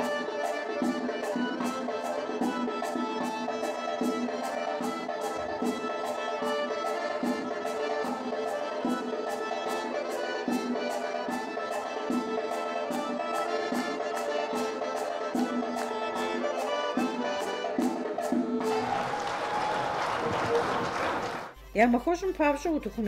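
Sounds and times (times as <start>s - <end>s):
dance music with percussive beat: 0.0s - 19.1s.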